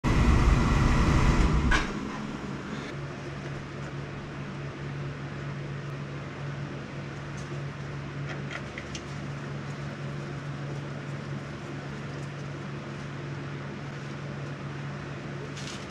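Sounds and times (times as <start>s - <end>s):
oil burner rumble: 0.0s - 15.9s
steady low hum: 0.0s - 15.9s.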